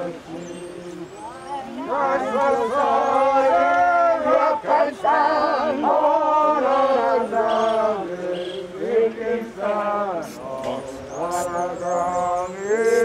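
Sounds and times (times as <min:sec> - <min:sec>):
voices singing slow melody: 0:00.0 - 0:13.0.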